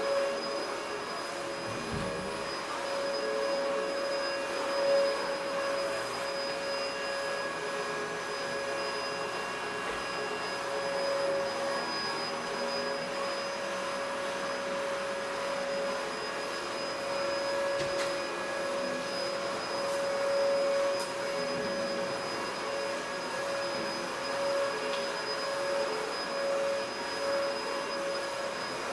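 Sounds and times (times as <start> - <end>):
vacuum cleaner running: 0.0 - 28.9.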